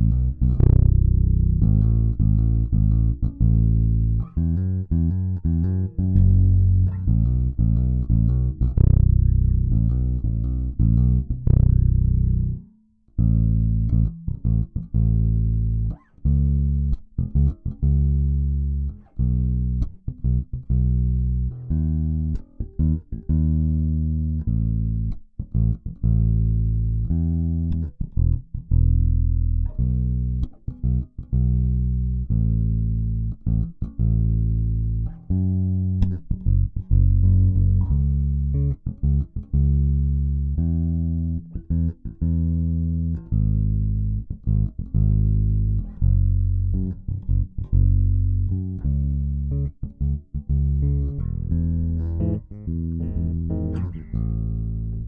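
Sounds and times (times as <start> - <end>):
bass guitar plucked notes: 0.0 - 55.0.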